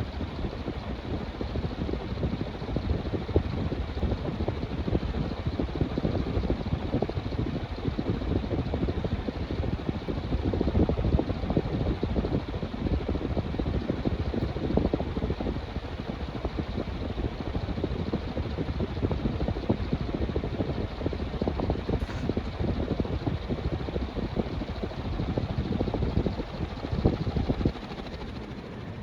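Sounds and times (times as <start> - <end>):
ceiling fan air rush: 0.0 - 29.0
wind buffeting microphone: 0.1 - 29.0.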